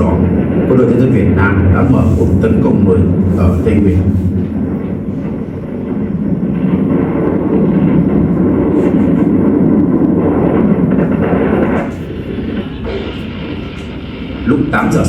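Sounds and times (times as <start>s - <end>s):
loud engine rumble: 0.0s - 15.0s.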